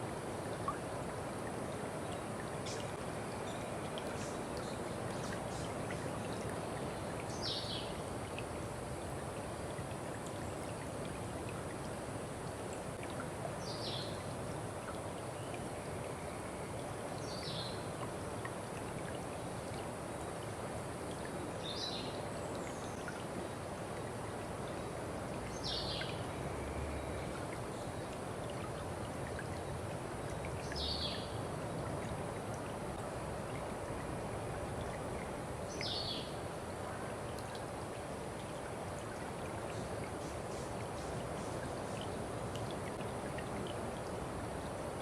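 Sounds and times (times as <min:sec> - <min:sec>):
stream of water running: 0:00.0 - 0:45.0.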